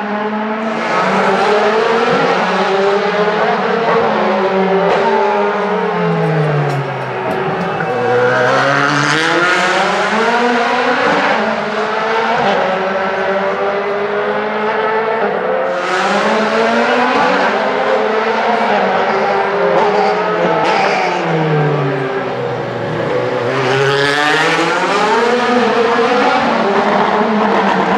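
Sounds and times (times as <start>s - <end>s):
racing cars passing by: 0.3s - 27.9s.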